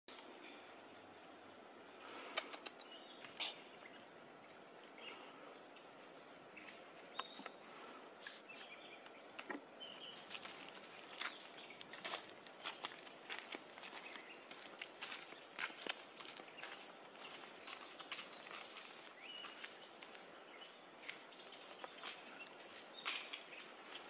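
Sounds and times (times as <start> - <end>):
insect drone: 0.1 - 24.0
bird chirps: 1.3 - 24.0
crackles and rustles of leaves: 4.0 - 24.0.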